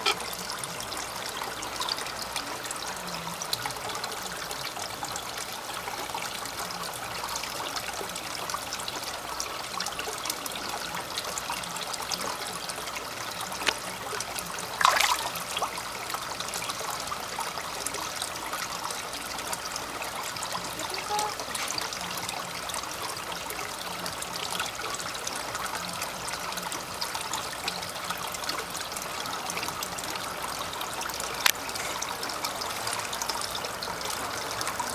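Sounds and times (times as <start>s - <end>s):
water trickling into a pond: 0.0s - 34.9s.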